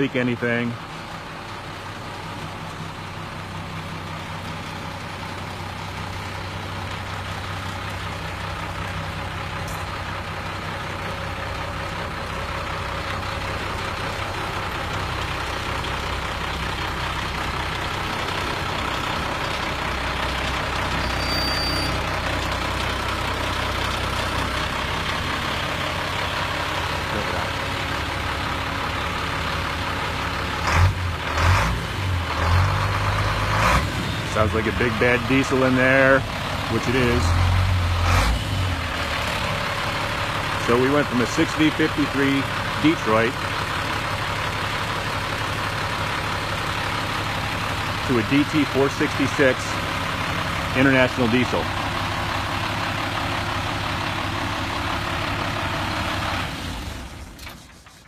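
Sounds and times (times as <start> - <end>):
diesel engine running steadily: 0.0 - 58.0.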